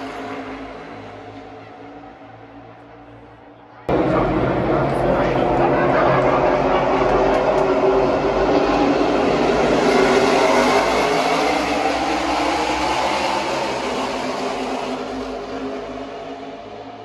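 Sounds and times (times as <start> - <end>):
race cars roaring past: 0.0 - 17.0.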